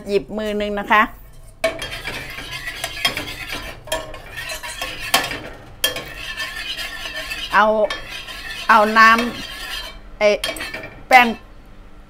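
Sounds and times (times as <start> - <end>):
metal spoon scraping saucepan: 1.2 - 11.4
spoon clinking against pan: 1.6 - 11.4.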